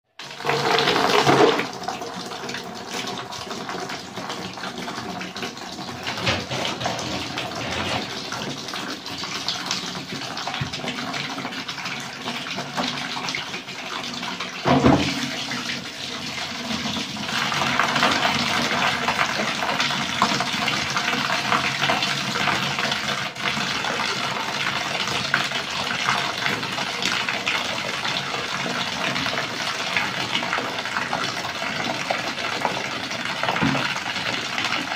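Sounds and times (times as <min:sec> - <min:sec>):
water pouring into plastic basin: 0:00.1 - 0:34.9.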